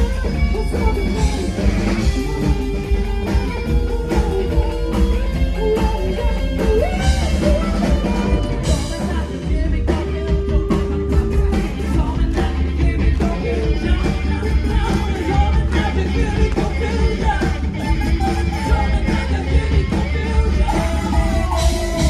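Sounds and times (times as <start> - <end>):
bass guitar: 0.0 - 22.0
drum kit: 0.0 - 22.0
electric guitar: 0.0 - 22.0
person singing: 0.0 - 22.0.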